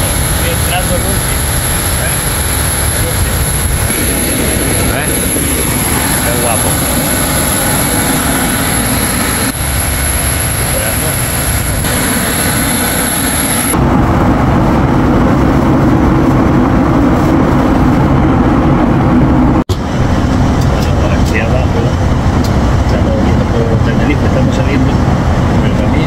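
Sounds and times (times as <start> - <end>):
deep engine rumble: 0.0 - 26.0
jet engines rushing inside cabin: 0.0 - 26.0.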